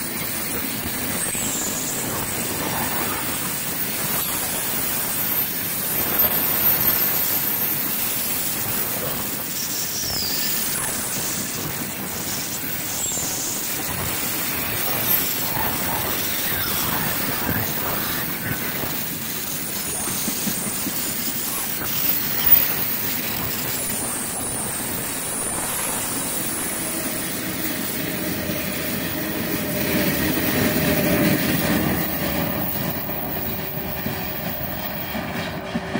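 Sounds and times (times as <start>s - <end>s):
freight train rolling past: 0.0s - 35.9s.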